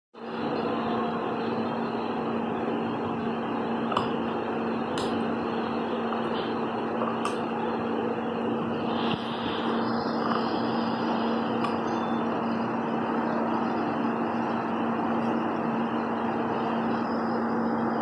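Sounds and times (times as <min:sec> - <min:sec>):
machine hum: 0:00.2 - 0:18.0.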